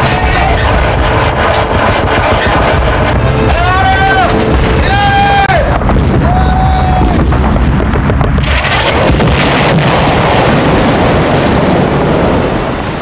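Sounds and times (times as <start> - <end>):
explosions and rumbling blasts: 0.0 - 13.0.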